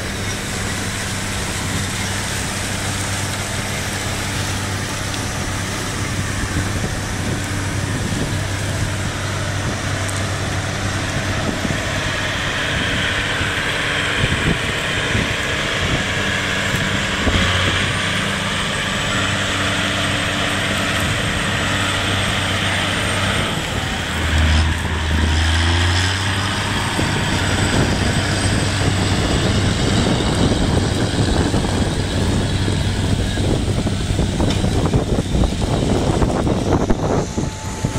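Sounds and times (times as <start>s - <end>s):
tractor diesel engine under load: 0.0s - 37.9s.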